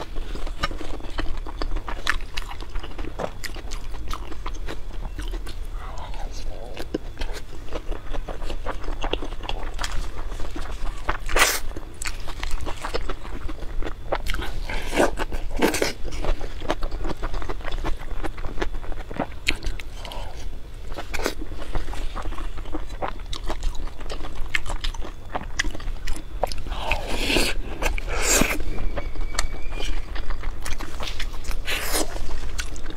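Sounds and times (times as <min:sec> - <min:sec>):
person chewing with mouth smacks: 0:00.0 - 0:32.9.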